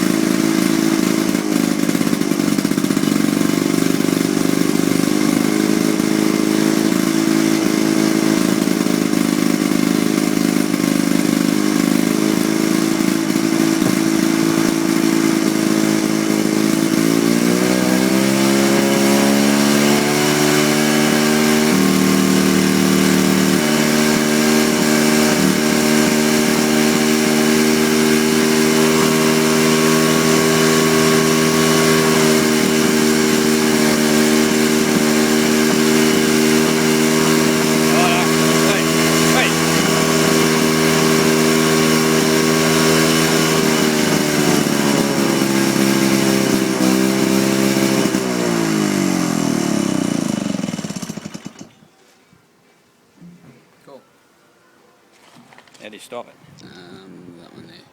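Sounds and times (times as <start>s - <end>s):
lawnmower engine running: 0.0s - 51.8s.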